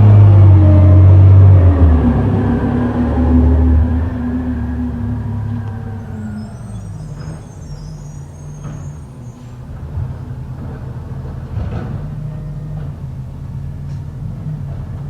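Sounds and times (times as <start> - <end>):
garbage truck engine running: 0.0 - 15.0.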